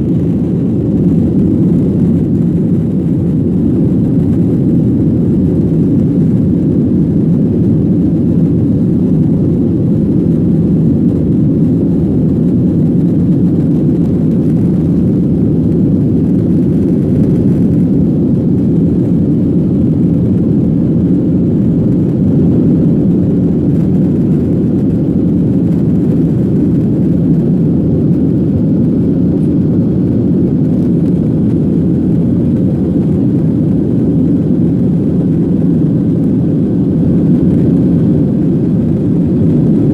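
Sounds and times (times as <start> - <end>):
airflow along fuselage: 0.0 - 39.9
airplane cabin engine drone: 0.0 - 39.9.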